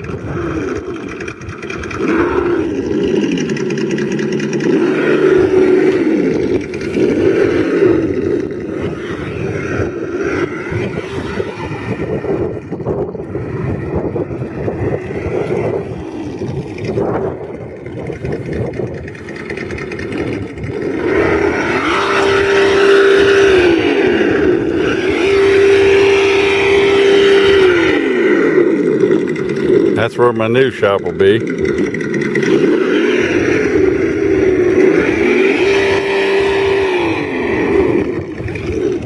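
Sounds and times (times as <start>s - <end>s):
rc truck motor whining: 0.0s - 39.0s.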